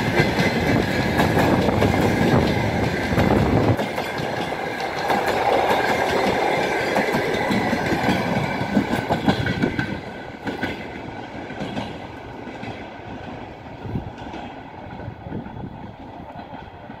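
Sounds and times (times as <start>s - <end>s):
train clattering over rail joints: 0.0s - 17.0s.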